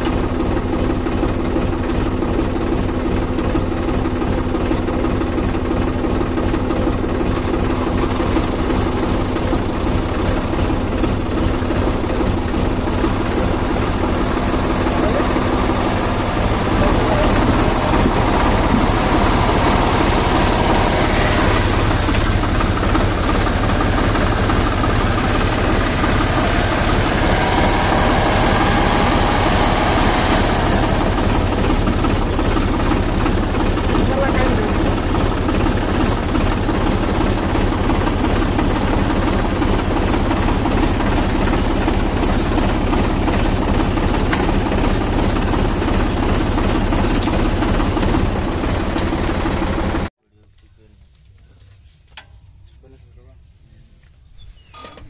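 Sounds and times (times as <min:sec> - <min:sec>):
tractor diesel engine revving: 0:00.0 - 0:50.1.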